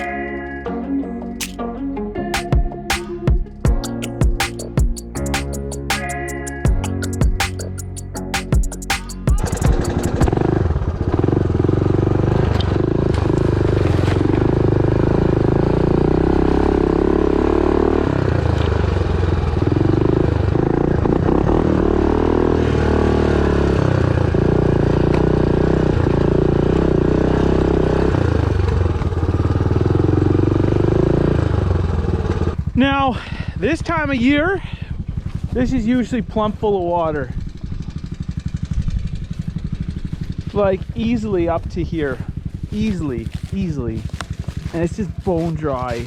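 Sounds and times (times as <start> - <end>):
atv engine running: 0.0 - 1.0, 8.8 - 46.0.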